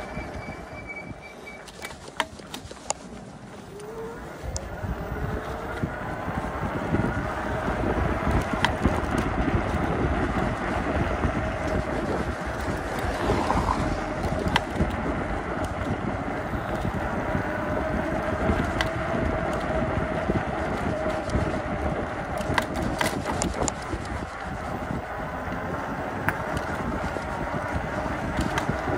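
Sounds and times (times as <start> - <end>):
wind buffeting microphone: 0.0 - 28.9
tyres on wet road: 1.2 - 28.9.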